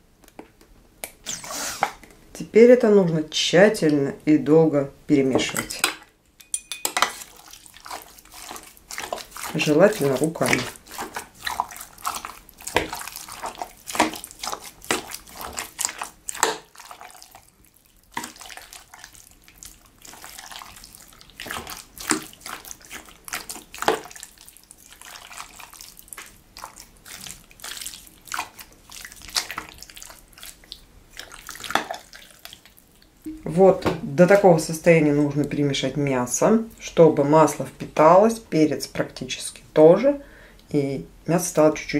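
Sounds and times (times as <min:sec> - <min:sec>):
wet stirring of meat in a pot: 0:05.1 - 0:39.1.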